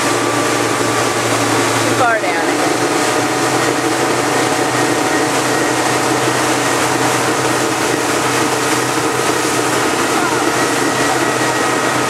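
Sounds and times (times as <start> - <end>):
boat engine humming: 0.0 - 12.0
churning wake water: 0.0 - 12.0.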